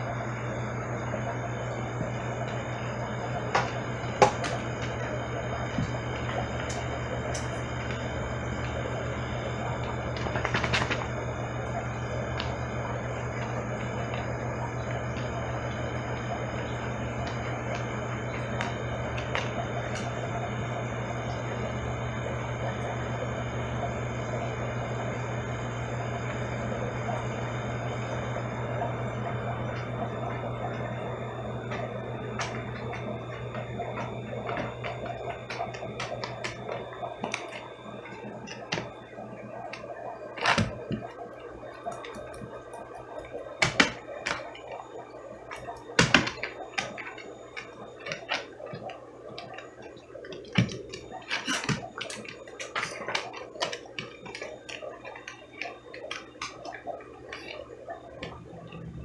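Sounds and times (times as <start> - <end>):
gurgling aquarium water: 0.0 - 59.0
low hum: 0.0 - 59.0
sharp clicks and pops: 1.2 - 21.4, 29.1 - 58.9.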